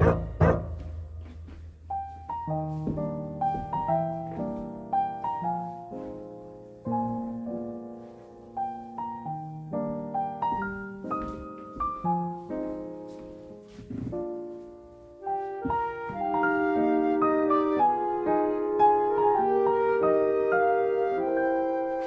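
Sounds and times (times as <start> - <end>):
piano waltz: 0.0 - 22.0.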